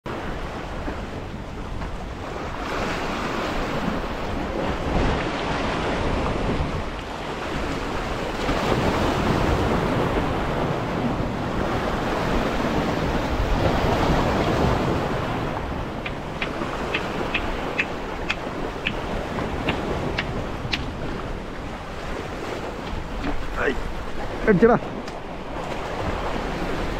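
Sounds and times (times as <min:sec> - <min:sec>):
sea waves breaking on rocks: 0:00.1 - 0:26.9
wind buffeting microphone: 0:00.1 - 0:26.9.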